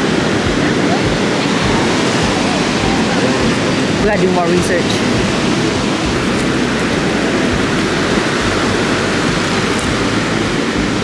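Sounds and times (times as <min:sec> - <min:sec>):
big waves breaking on beach: 0:00.0 - 0:11.0.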